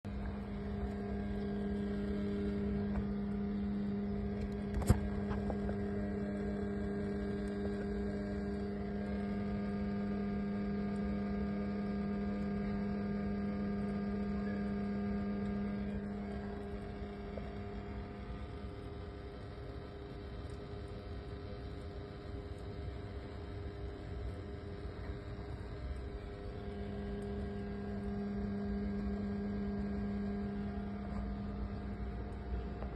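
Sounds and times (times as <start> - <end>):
engine droning hum: 0.0 - 32.9.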